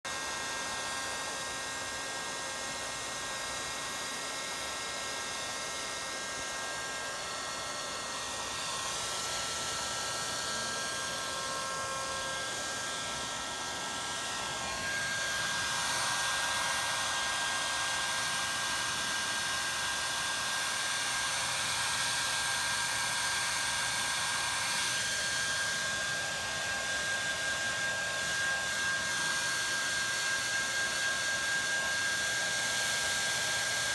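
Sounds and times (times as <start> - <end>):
hair dryer blowing: 0.1 - 33.9.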